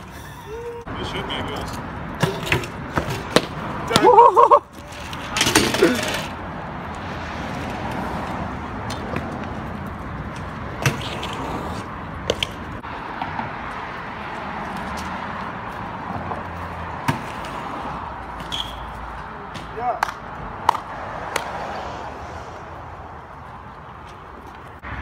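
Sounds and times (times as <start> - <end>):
bikes knocking on concrete: 0.0 - 20.9
bike tyres rolling on concrete: 0.0 - 21.9
street noise: 0.0 - 25.0.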